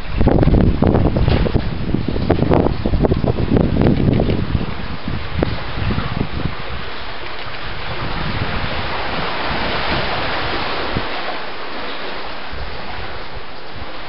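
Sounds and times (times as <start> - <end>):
sea surf washing against rocks: 0.0 - 14.0
wind buffeting microphone: 0.0 - 14.0.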